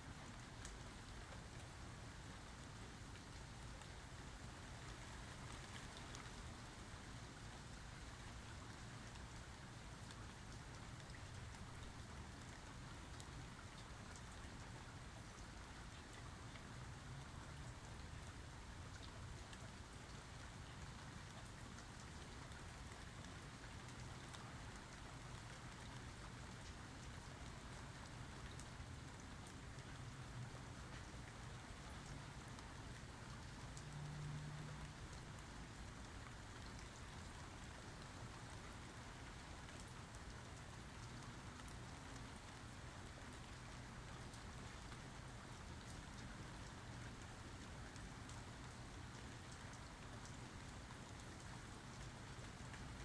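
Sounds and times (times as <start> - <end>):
rain falling: 0.1 - 53.0.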